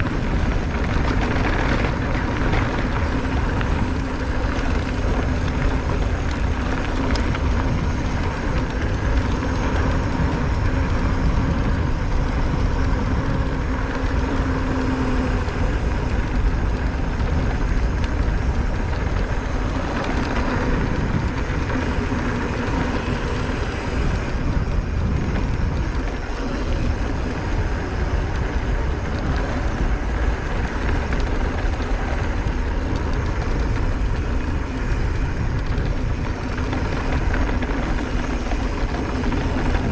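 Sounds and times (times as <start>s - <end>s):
bike tyres rolling on dirt: 0.0s - 39.9s
electric motor hum: 0.0s - 39.9s
wind noise on microphone: 0.0s - 39.9s.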